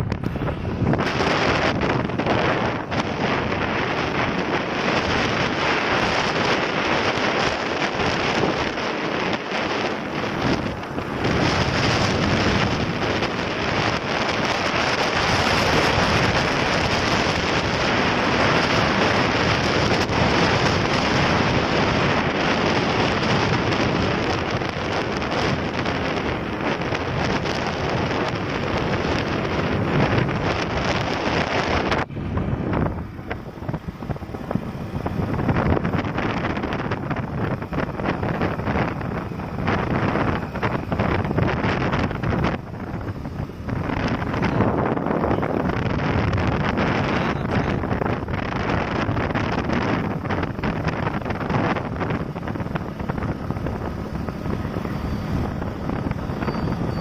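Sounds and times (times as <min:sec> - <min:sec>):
motorcycle engine and road noise: 0:00.0 - 0:57.0
wind rushing over microphone: 0:00.0 - 0:57.0.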